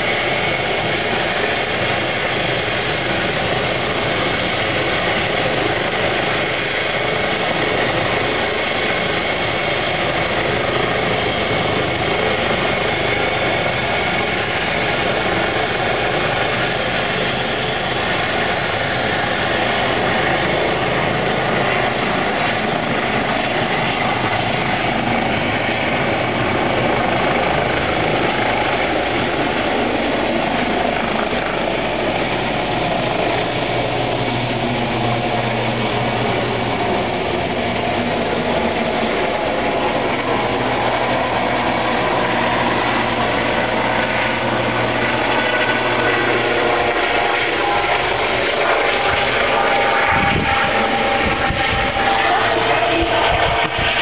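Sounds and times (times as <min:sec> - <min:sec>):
helicopter turbine and rotor noise: 0:00.0 - 0:54.0.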